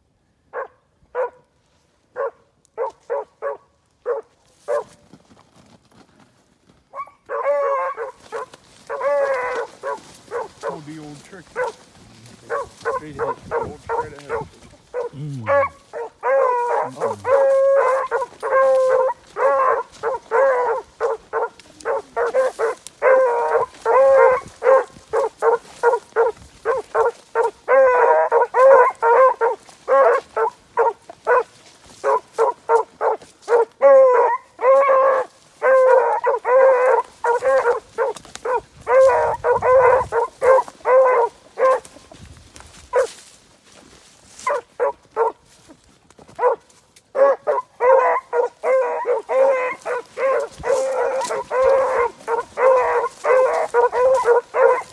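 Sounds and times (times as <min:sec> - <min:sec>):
beagles barking: 0:00.5 - 0:01.5, 0:02.1 - 0:05.0, 0:06.9 - 0:42.2, 0:42.8 - 0:43.2, 0:44.4 - 0:45.5, 0:46.2 - 0:54.9.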